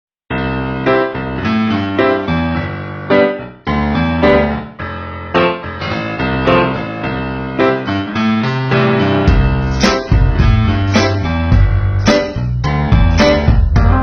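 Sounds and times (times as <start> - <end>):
piano chords: 0.3 - 14.0.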